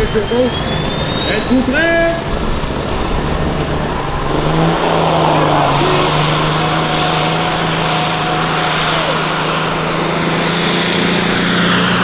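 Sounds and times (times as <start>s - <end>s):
diesel truck engine revving: 0.0s - 12.0s
turbocharger whine: 0.0s - 12.0s.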